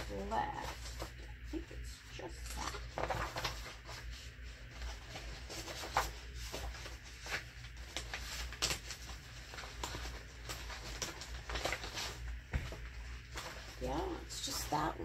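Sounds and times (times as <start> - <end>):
low steady hum: 0.0 - 15.0
paper rustling: 0.0 - 15.0.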